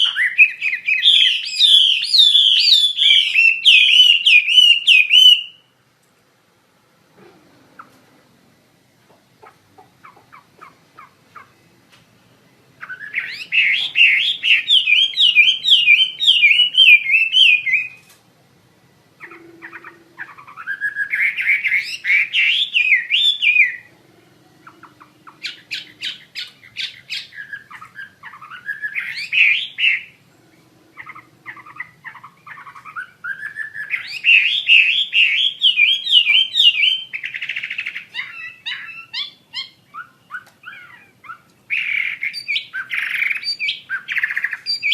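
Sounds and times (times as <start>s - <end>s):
songbird warbling: 0.0s - 5.7s, 9.1s - 11.8s, 12.6s - 18.1s, 19.2s - 44.9s.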